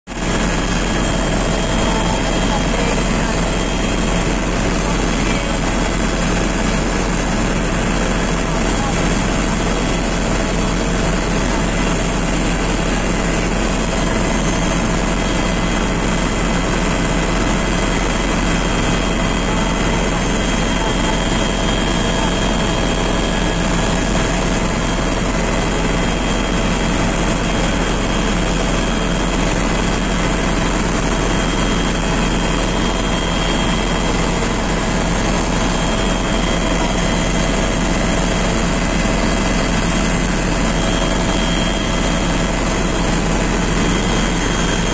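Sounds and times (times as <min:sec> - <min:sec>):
aircraft cabin engine rush: 0:00.1 - 0:44.9.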